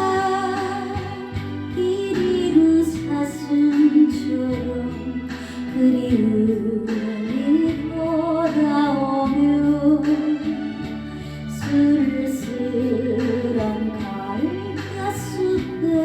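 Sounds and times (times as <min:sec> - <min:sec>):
instrumental backing track: 0:00.0 - 0:16.0
woman singing with vibrato: 0:00.0 - 0:16.0.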